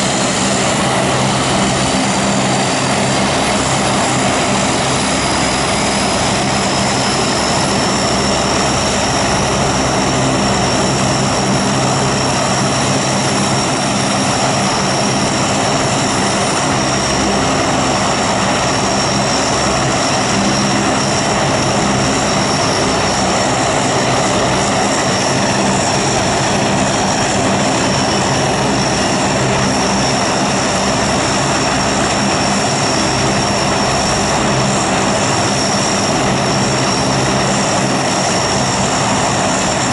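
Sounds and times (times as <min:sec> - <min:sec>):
high turbine whine: 0:00.0 - 0:39.9
propeller engines droning: 0:00.0 - 0:39.9.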